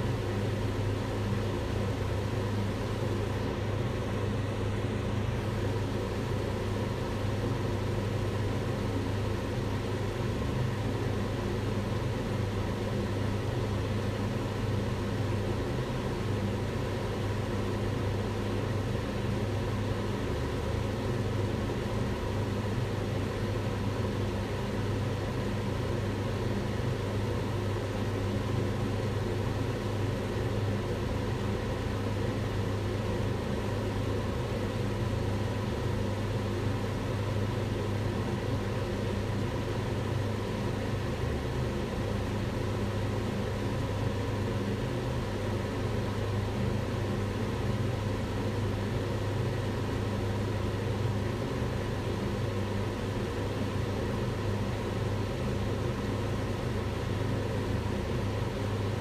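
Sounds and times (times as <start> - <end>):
range hood fan running: 0.0 - 59.0.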